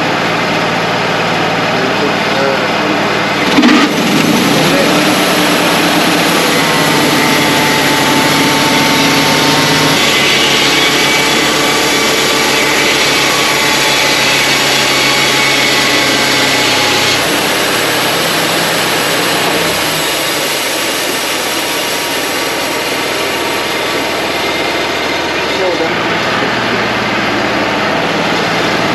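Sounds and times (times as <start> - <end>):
band sawmill cutting log: 0.0 - 28.9.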